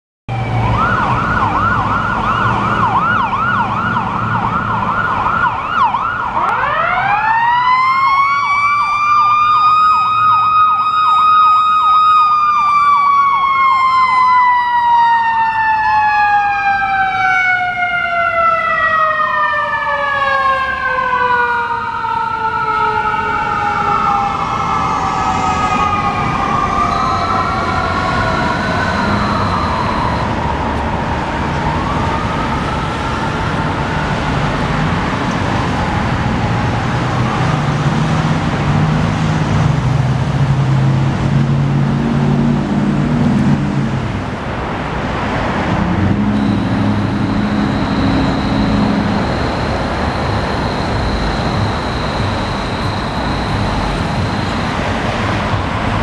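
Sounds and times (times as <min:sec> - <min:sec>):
electronic siren yelp and wail: 0:00.3 - 0:38.0, 0:45.8 - 0:56.0
mechanical siren howl: 0:00.3 - 0:38.6, 0:45.6 - 0:56.0.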